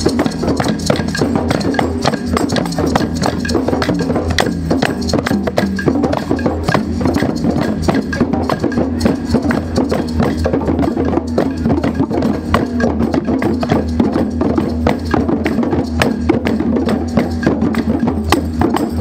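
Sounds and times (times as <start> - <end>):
djembe drums played by hand: 0.0 - 19.0.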